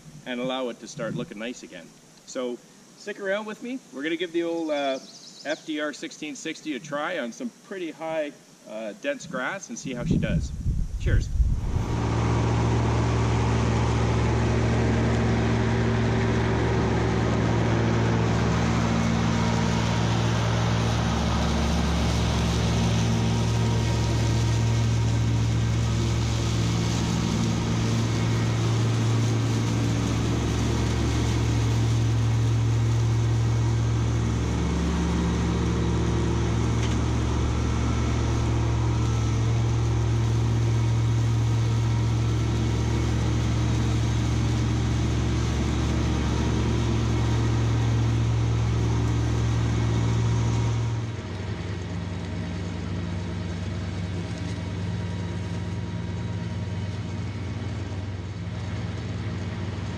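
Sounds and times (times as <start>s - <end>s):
mower cutting tall grass: 9.4s - 59.9s
tractor diesel engine running: 9.9s - 59.9s.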